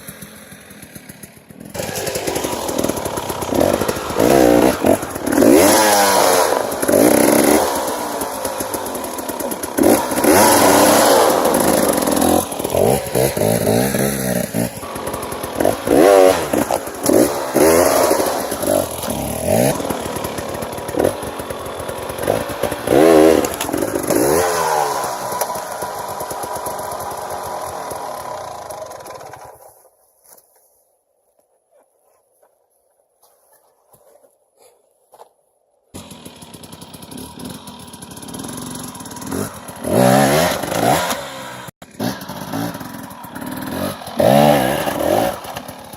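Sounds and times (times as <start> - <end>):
dirt bike engine revving: 0.0 - 29.6, 36.0 - 45.9.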